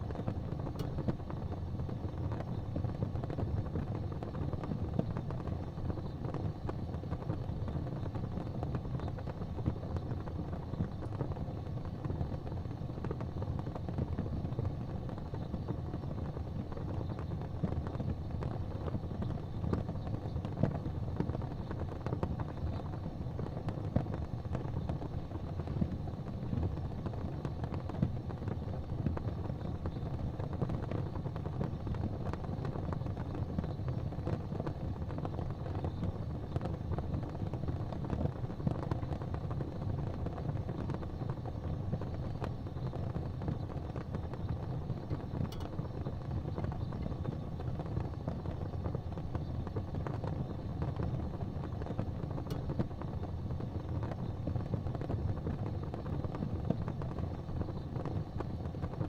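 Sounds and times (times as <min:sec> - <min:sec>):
fire crackling: 0:00.0 - 0:59.0
low rumble of flames: 0:00.0 - 0:59.0.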